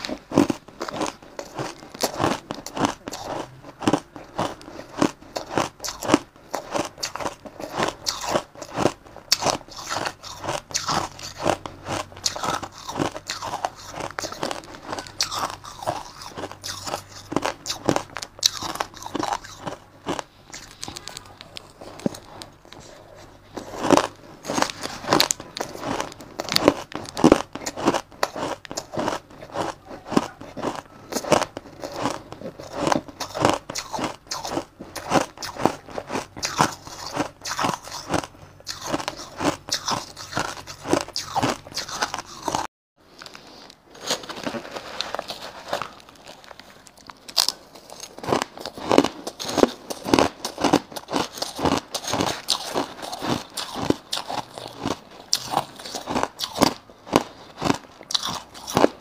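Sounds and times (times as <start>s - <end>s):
chewing crushed ice: 0.0s - 59.0s.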